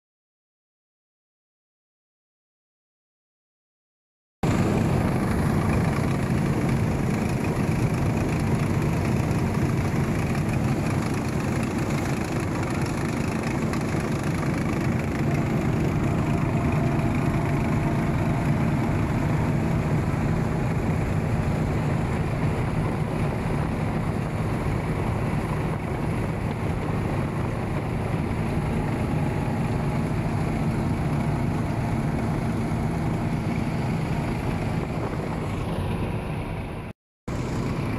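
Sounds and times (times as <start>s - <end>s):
heavy vehicle engine droning: 4.4s - 37.9s.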